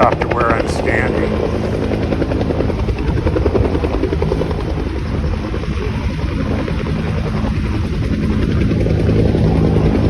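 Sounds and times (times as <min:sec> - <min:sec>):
helicopter rotor chopping: 0:00.0 - 0:10.0
wind buffeting the microphone: 0:00.0 - 0:10.0.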